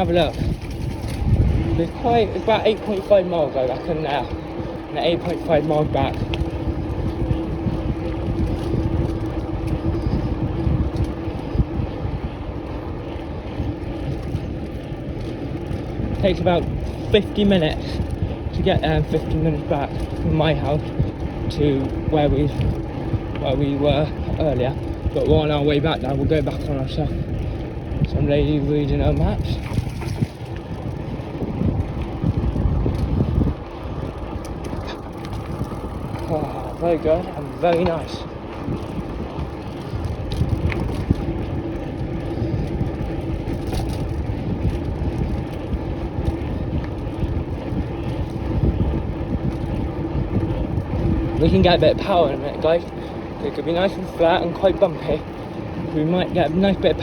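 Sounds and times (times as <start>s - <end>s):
bicycle tyre and road rumble: 0.0s - 57.0s
low hum: 0.0s - 57.0s
wind buffeting microphone: 0.0s - 57.0s.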